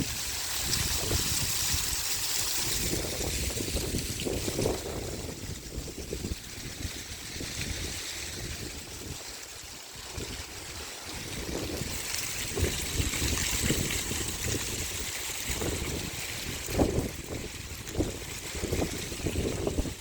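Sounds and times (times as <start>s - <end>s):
wind buffeting microphone: 0.0s - 9.3s, 10.0s - 20.0s.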